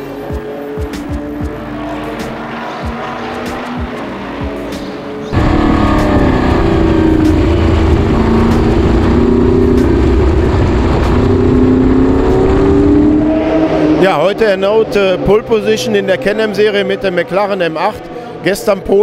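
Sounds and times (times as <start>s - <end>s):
racing car engine in cockpit: 0.0s - 19.0s
car passing at speed: 0.2s - 18.5s.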